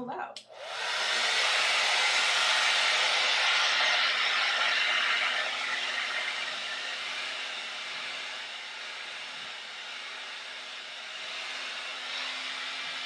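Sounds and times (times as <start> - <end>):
hair dryer rushing air: 0.4 - 13.0.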